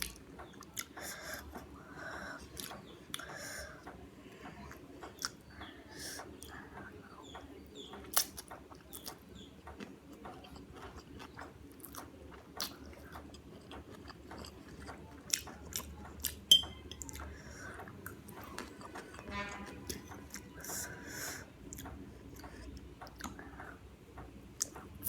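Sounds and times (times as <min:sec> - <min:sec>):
chewing food: 0:00.0 - 0:19.3, 0:19.9 - 0:25.0.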